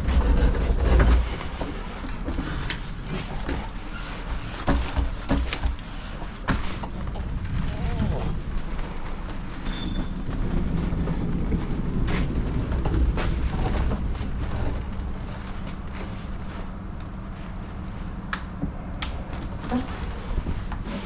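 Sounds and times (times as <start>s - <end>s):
lorry diesel engine running: 0.0s - 21.0s.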